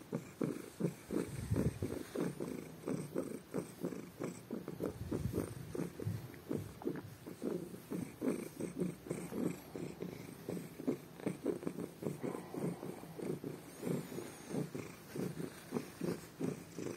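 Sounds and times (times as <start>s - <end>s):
cat purring loudly: 0.0s - 16.9s.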